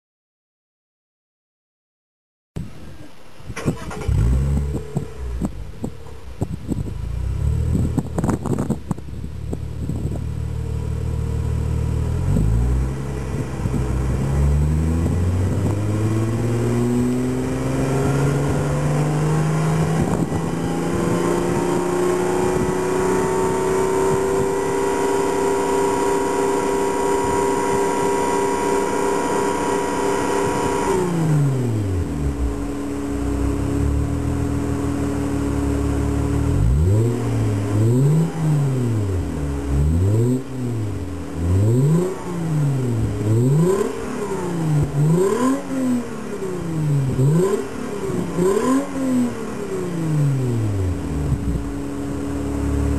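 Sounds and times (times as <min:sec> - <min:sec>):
car exhaust revving: 0:03.7 - 0:52.9.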